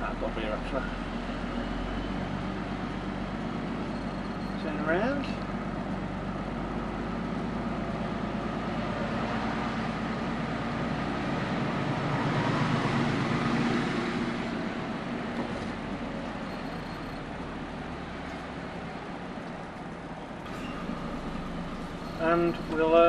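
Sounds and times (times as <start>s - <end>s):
lorry diesel engine running: 0.0s - 23.0s.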